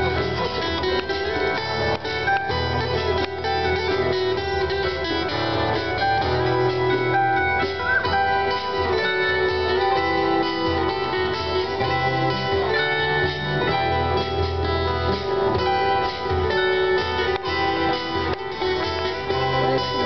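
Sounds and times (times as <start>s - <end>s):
instrumental guitar music: 0.0s - 20.0s
steady bass line: 0.0s - 20.0s.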